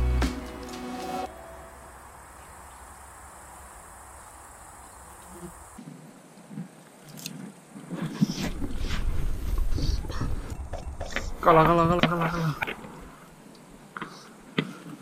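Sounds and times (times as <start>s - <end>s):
rustling of tall grass: 0.0s - 15.0s
insects chirping: 0.7s - 14.4s.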